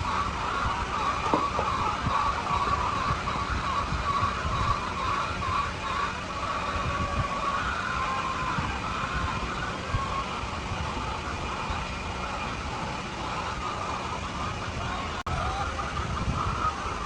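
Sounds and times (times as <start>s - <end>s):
flock of chickens calling: 0.0s - 17.0s.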